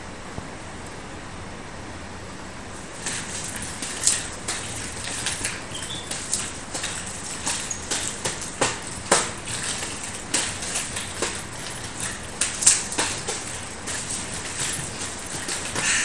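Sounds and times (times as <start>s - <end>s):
nunchaku clacks and slaps: 2.8s - 16.0s.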